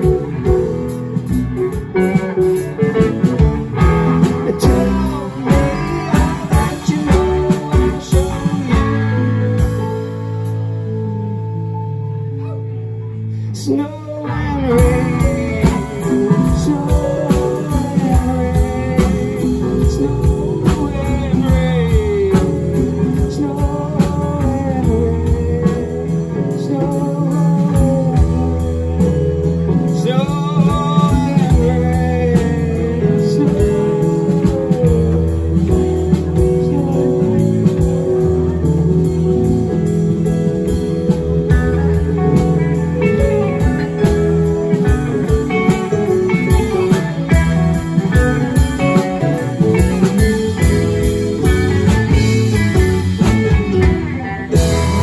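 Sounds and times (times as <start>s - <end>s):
drum kit: 0.0s - 12.7s, 13.6s - 55.0s
electric guitar: 0.0s - 55.0s.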